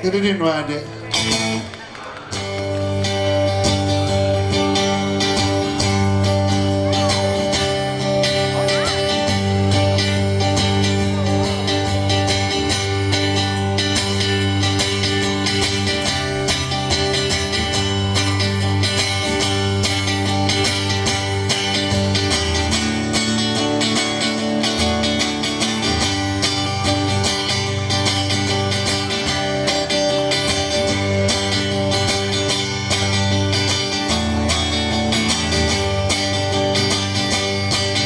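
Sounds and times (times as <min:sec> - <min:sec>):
live band playing instrumental: 0:00.0 - 0:38.0
strummed guitar: 0:00.0 - 0:38.0.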